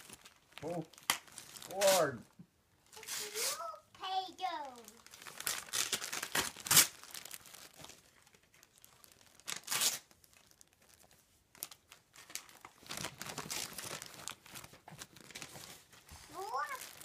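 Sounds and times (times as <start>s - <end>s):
wrapping paper crinkling and tearing: 0.0s - 2.2s, 2.8s - 17.0s.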